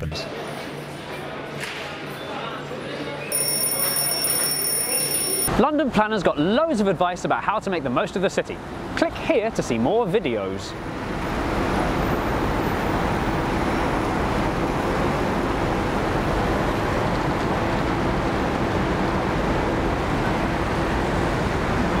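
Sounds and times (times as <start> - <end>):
city street traffic hum: 0.0 - 22.0.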